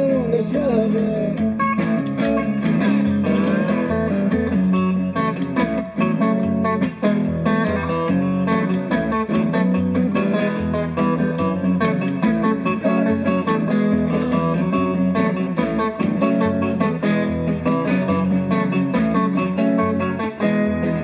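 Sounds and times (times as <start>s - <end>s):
bass line: 0.0s - 21.0s
electric guitar: 0.0s - 21.0s.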